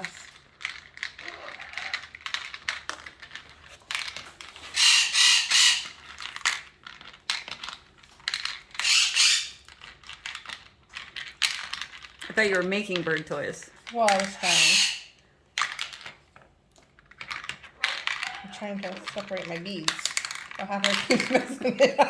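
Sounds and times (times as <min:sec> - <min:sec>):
beads clattering and rattling: 0:00.0 - 0:22.0.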